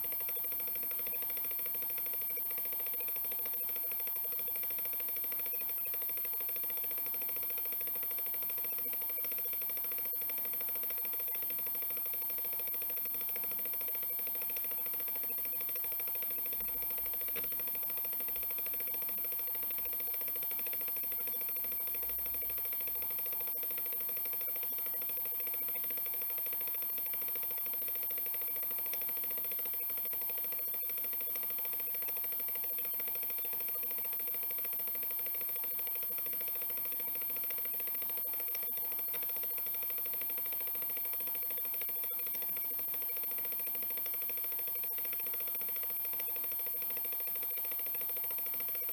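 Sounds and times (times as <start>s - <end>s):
hard drive spindle whine: 0.0s - 48.9s.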